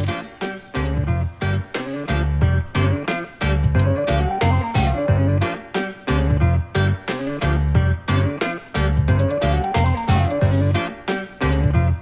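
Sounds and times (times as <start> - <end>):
guitar and bass with steady beat: 0.0 - 12.0.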